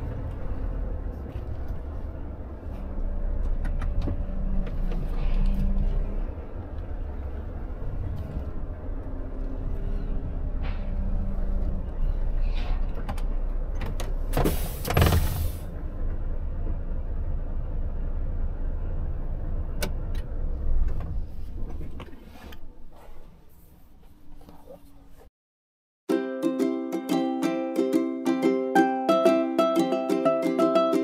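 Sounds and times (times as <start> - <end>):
truck engine low rumble: 0.0 - 25.2.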